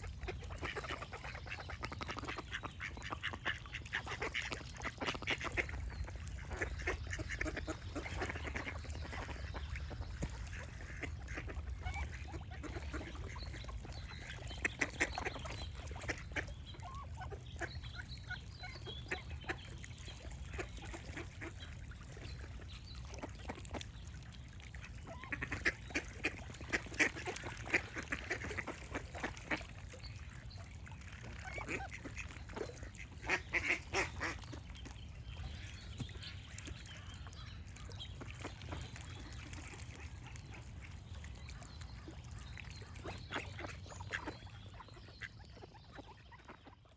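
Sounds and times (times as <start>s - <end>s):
ducks quacking: 0.0s - 21.8s, 25.0s - 29.7s, 31.3s - 46.9s
faint birdsong: 0.1s - 46.9s.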